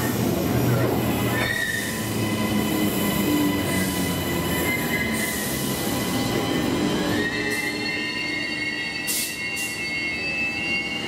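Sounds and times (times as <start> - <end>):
high-pitched train whine: 0.0 - 11.0
train rolling rumble: 0.0 - 11.0.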